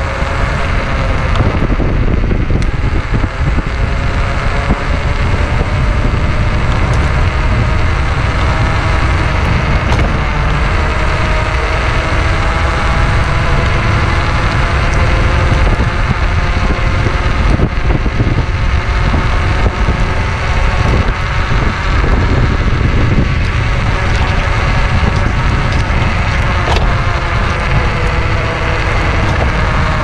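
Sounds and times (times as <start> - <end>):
tyre and road rumble: 0.0 - 30.0
wind buffeting on microphone: 0.0 - 30.0.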